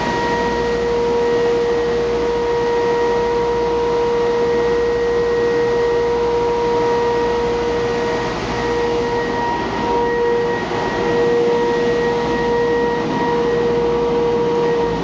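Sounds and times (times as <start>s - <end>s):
high whine: 0.0s - 15.0s
rush of air from blower: 0.0s - 15.0s.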